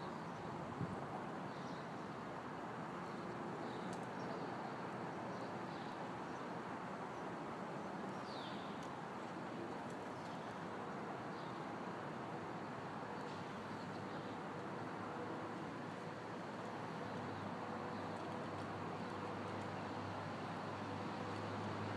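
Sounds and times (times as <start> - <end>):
outdoor background noise: 0.0 - 21.9.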